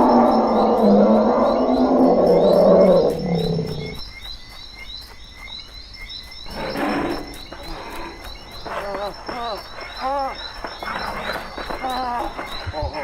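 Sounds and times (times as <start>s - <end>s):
frog chorus: 0.0s - 4.0s, 4.9s - 13.0s.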